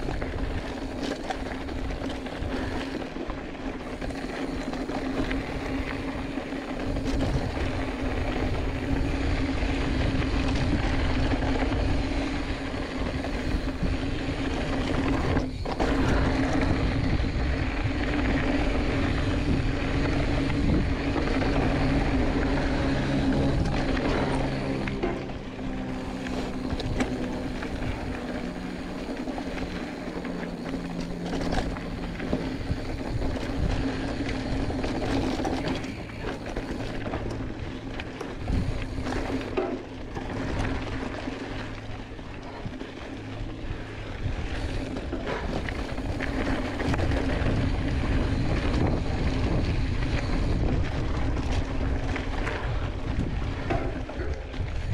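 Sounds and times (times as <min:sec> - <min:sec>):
bike rattling over stones: 0:00.0 - 0:54.9
tyres crunching on gravel: 0:00.0 - 0:54.9
wind rumble on microphone: 0:00.0 - 0:54.9.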